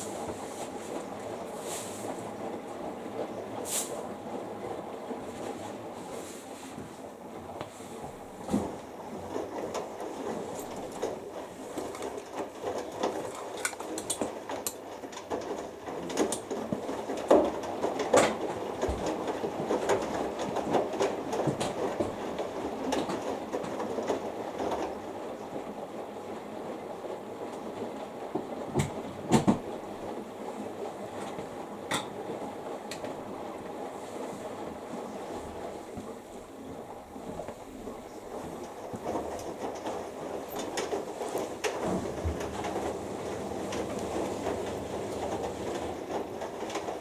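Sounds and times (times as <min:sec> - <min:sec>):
laundry tumbling and sloshing: 0:00.0 - 0:25.1, 0:27.2 - 0:47.0.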